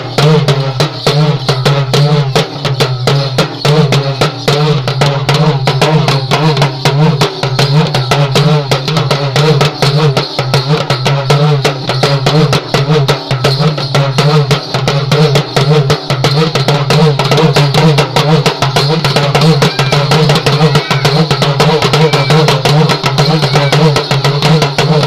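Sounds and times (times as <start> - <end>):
hand drum beaten with stick: 0.0 - 25.0.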